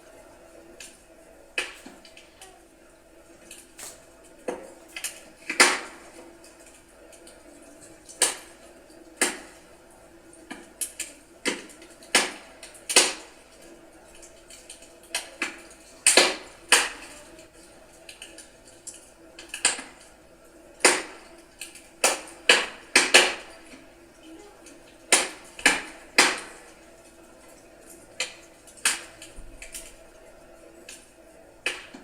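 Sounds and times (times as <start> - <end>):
firewood crackling and popping: 0.0 - 32.0.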